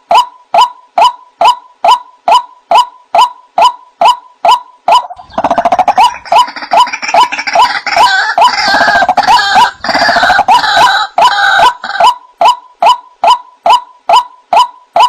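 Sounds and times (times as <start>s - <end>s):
harsh chattering bird calls: 2.3s - 15.0s.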